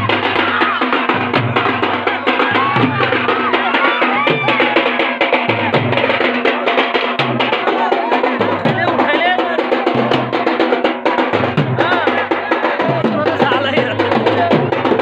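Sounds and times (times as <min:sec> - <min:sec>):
fast dense drumming: 0:00.0 - 0:15.0.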